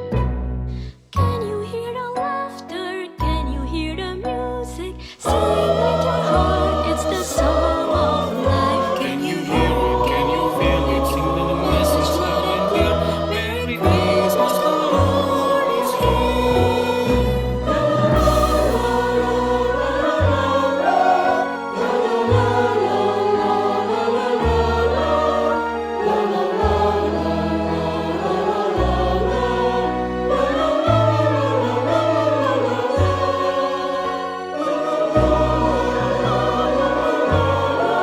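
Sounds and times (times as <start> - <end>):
sustained bass notes: 4.8 - 38.0
choir singing: 5.2 - 38.0.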